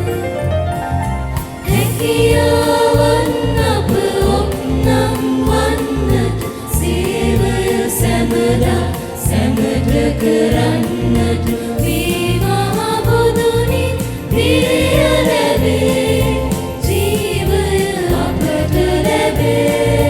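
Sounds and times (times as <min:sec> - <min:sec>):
band accompaniment with bass beat: 0:00.0 - 0:20.0
choir singing a hymn: 0:01.6 - 0:20.0.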